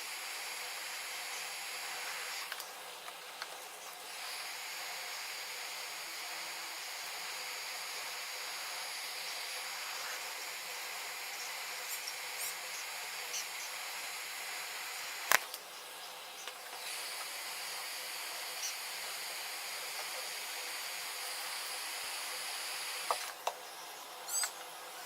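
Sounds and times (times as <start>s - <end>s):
hot-air station hissing: 0.0s - 25.0s.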